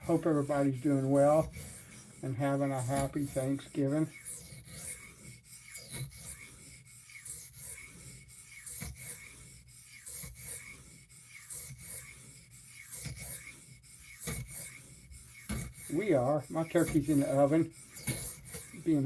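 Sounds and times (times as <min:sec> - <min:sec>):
knife blade scraping on whetstone: 0:00.0 - 0:19.0.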